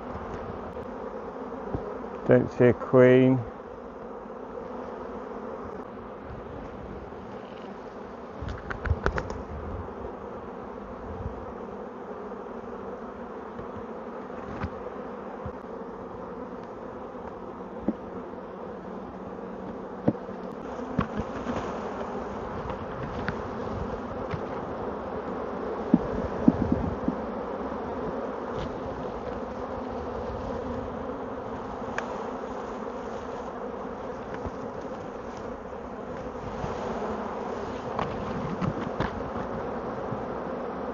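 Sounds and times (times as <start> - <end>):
bee swarm buzzing: 0.0 - 40.9.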